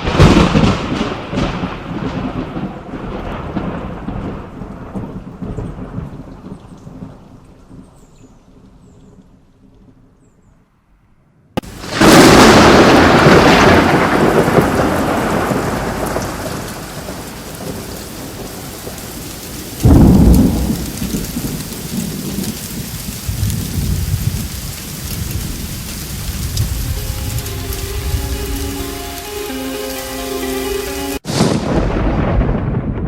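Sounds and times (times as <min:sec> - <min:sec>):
thunderclap rumbling: 0:00.0 - 0:07.8, 0:11.6 - 0:29.5, 0:31.1 - 0:33.0
steady rain: 0:00.0 - 0:10.1, 0:11.6 - 0:33.0.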